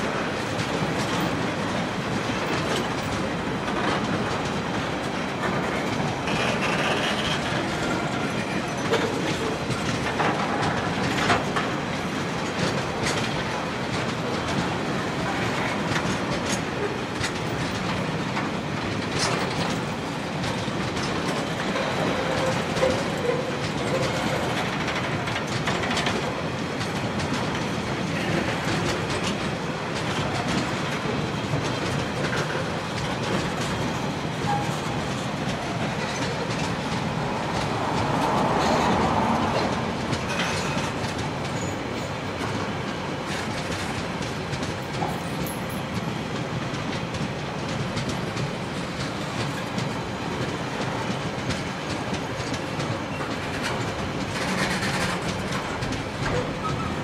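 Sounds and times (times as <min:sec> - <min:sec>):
steel wheels rumbling on rails: 0:00.0 - 0:57.0
wagons clicking and clanking: 0:00.4 - 0:57.0.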